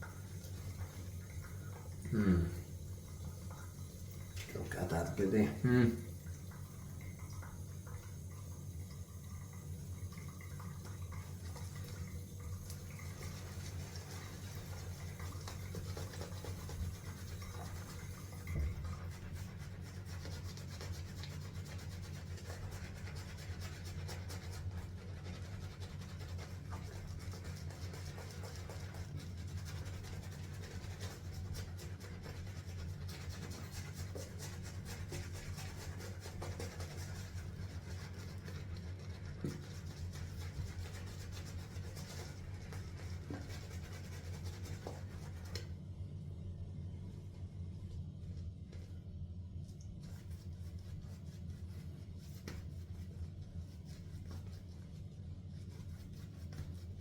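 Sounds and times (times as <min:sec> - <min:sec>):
shaving brush rubbing lather: 0:00.0 - 0:06.2, 0:11.2 - 0:45.7, 0:50.0 - 0:57.0.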